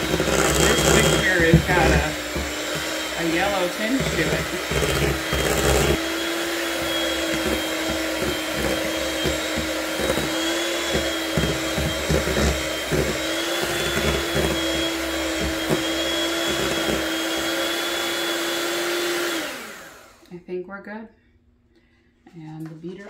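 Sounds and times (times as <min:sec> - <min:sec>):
electric hand mixer whining: 0:00.0 - 0:20.3.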